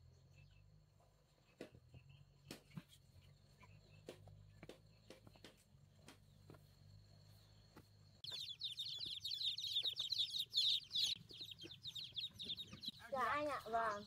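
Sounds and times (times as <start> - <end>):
chicks peeping: 0.3 - 14.0.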